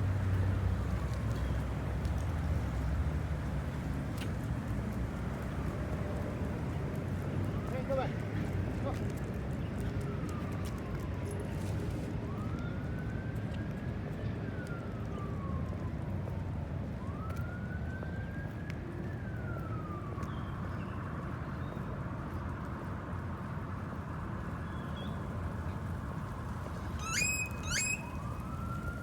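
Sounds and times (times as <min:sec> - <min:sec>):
emergency vehicle siren wailing: 0:00.0 - 0:29.0.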